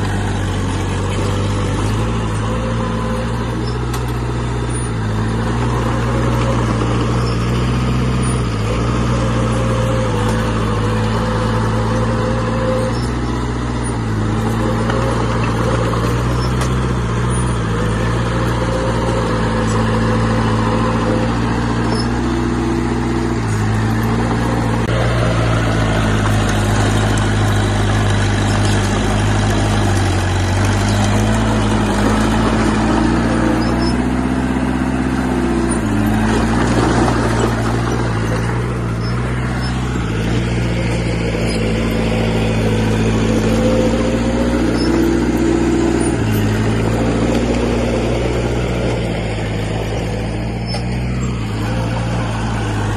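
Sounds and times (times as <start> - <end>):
heavy diesel engine revving: 0.0 - 52.9.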